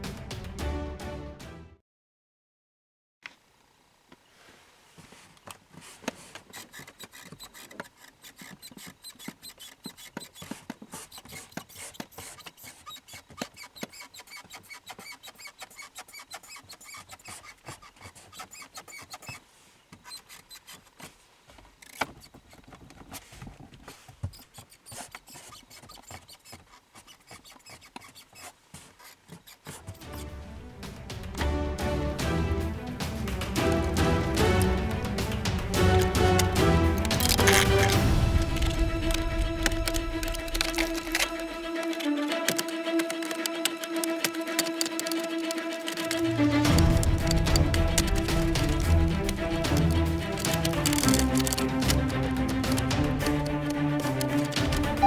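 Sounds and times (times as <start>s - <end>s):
plastic trim creaking and squeaking: 6.0s - 30.2s, 33.1s - 55.0s.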